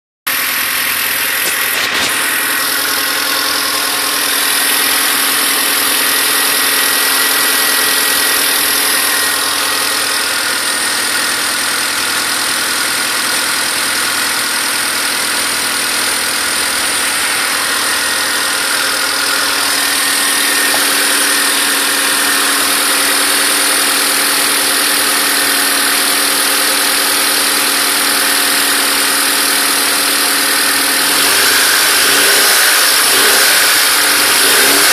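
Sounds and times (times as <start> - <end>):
car engine idling: 0.3 - 34.9
engine clacking: 0.3 - 34.9.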